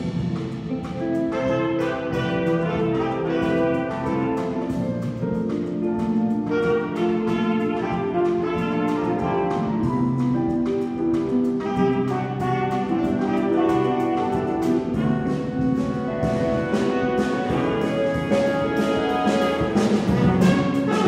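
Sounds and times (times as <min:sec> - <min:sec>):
drum kit with cymbals: 0:00.0 - 0:21.0
electric bass: 0:00.0 - 0:21.0
piano: 0:00.0 - 0:21.0
saxophone and trumpet line: 0:00.9 - 0:05.1, 0:06.4 - 0:10.4, 0:11.6 - 0:21.0.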